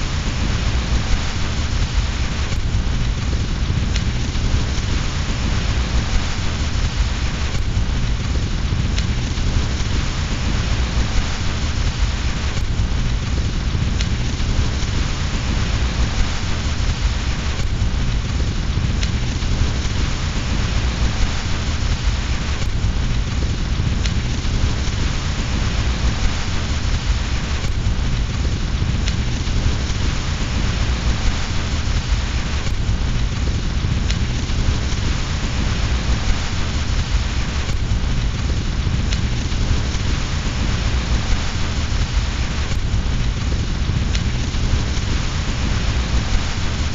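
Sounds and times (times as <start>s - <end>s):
deep low rumble: 0.0s - 46.9s
fireplace fire crackling: 0.0s - 46.9s
steady rain: 0.0s - 46.9s.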